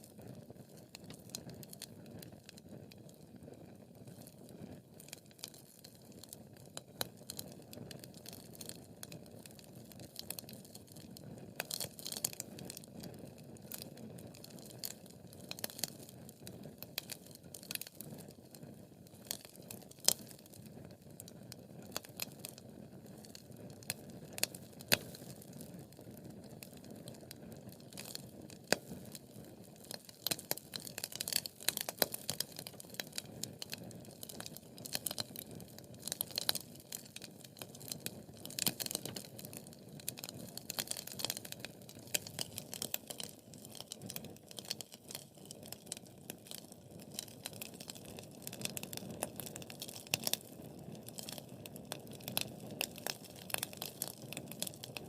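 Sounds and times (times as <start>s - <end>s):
crackling wood pops: 0.0s - 2.7s, 5.0s - 55.0s.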